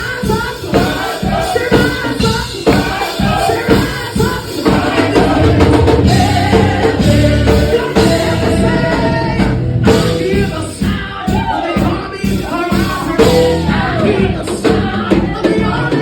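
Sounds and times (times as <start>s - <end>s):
worship singing with band: 0.0s - 16.0s.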